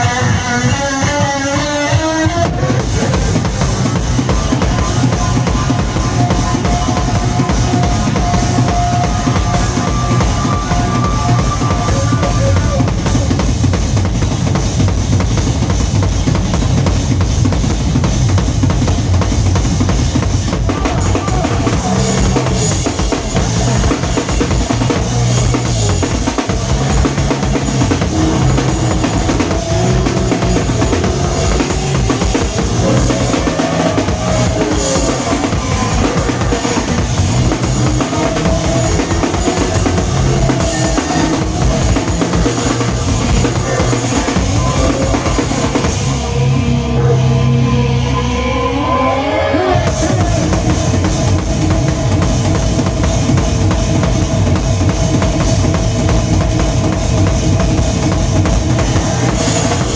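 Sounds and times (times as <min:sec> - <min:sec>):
drum kit pounding: 0:00.0 - 0:46.8, 0:49.9 - 0:59.9
distorted bass guitar riff: 0:00.0 - 0:59.9.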